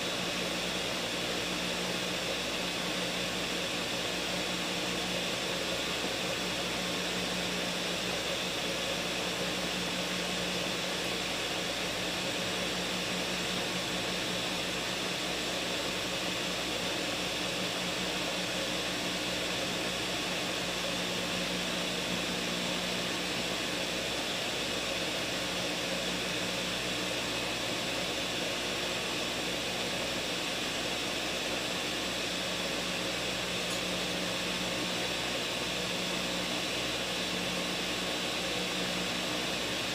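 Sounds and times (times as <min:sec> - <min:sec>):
blender motor whirring: 0:00.0 - 0:39.9.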